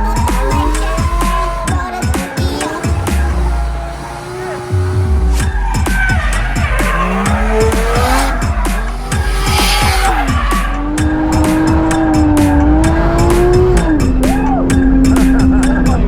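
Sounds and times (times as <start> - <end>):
tyres squealing: 0.0 - 13.9
car engine revving: 0.0 - 16.0.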